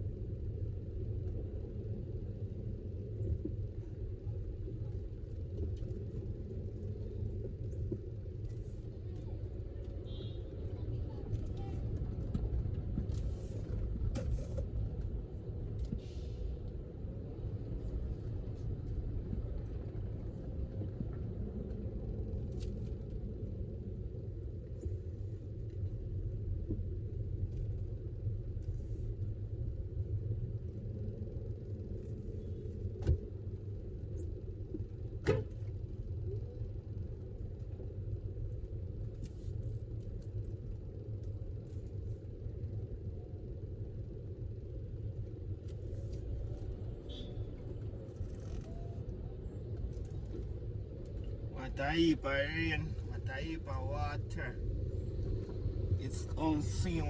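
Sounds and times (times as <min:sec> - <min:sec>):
car rumbling in traffic: 0:00.0 - 0:57.0.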